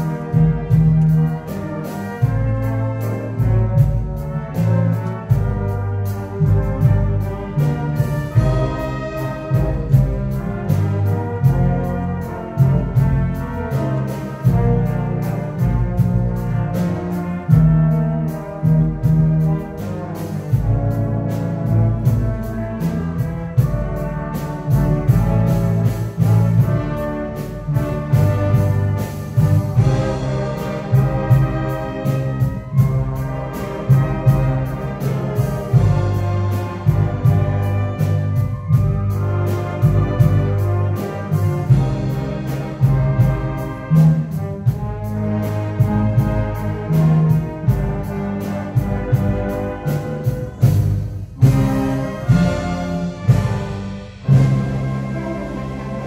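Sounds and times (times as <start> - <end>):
wind band playing: 0.0 - 56.0.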